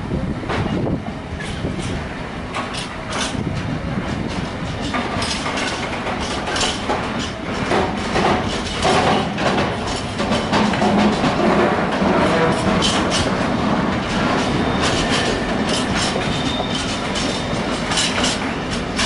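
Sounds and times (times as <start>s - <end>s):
train wheels clattering on track: 0.4s - 19.0s.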